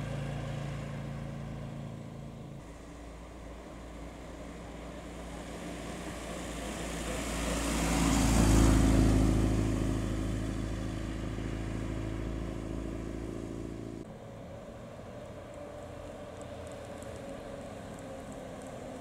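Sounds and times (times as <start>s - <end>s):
car engine driving past: 0.0s - 19.0s.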